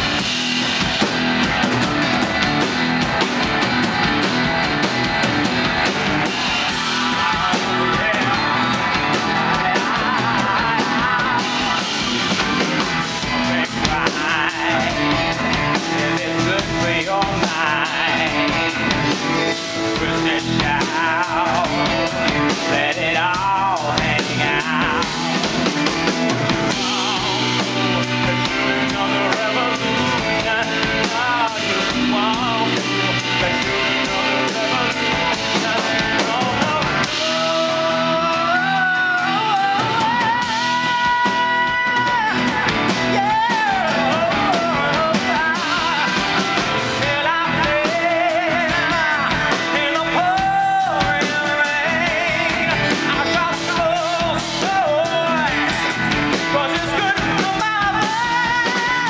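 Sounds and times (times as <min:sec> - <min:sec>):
drum kit: 0:00.0 - 0:59.0
electric guitar: 0:00.0 - 0:59.0
person singing rock song: 0:00.0 - 0:59.0.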